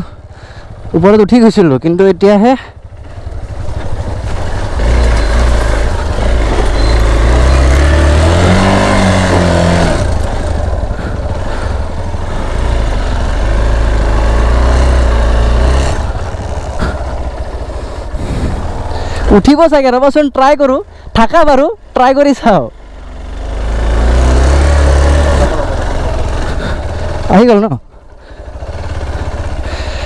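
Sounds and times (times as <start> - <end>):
motorcycle engine revving: 0.0 - 20.3, 20.9 - 30.0.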